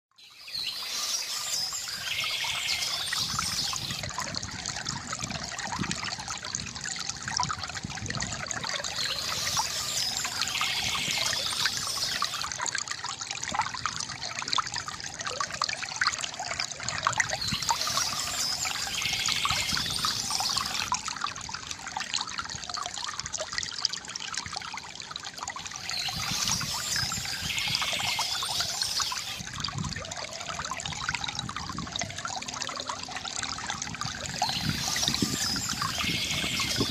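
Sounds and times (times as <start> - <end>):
stream babbling over stones: 0.4 - 36.9.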